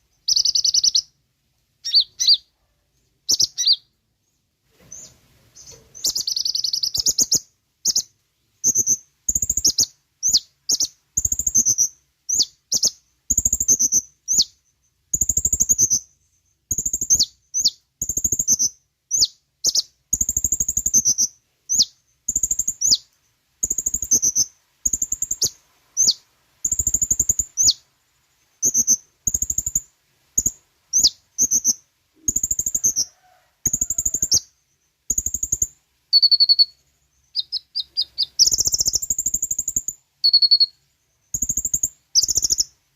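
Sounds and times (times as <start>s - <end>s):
small bird singing high chirps: 0.0s - 1.2s, 1.8s - 42.8s.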